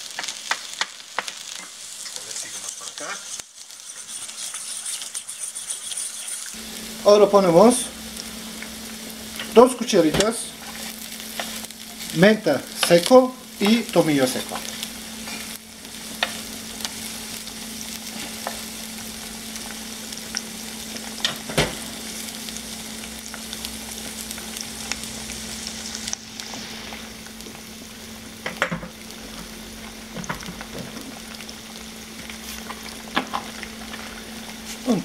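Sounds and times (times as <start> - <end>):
butter sizzling in a pot: 0.0 - 35.0.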